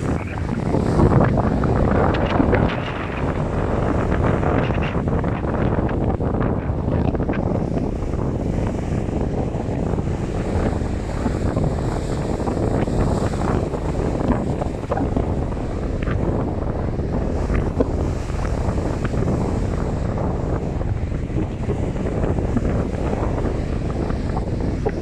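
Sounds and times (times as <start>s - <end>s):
rough sea surf: 0.0s - 25.0s
wind buffeting microphone: 0.0s - 25.0s.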